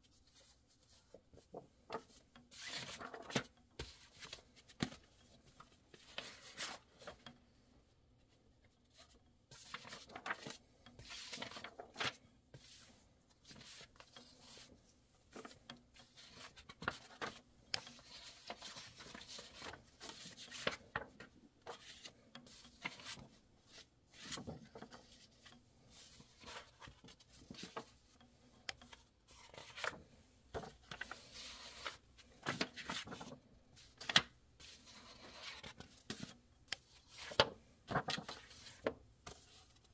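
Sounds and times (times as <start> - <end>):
paper pages rustling: 0.2 - 7.3, 8.8 - 28.1, 28.7 - 39.9.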